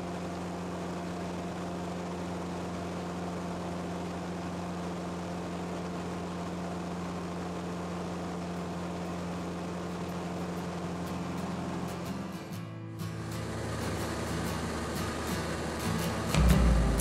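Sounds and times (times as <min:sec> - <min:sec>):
light aircraft engine droning: 0:00.0 - 0:17.0
propeller and air hiss: 0:00.0 - 0:17.0.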